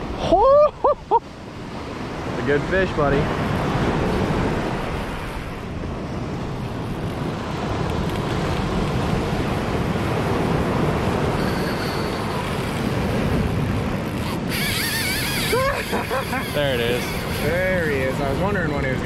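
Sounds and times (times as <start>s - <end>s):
surf breaking on beach: 0.0s - 14.5s, 15.4s - 19.0s
wind buffeting microphone: 0.0s - 19.0s.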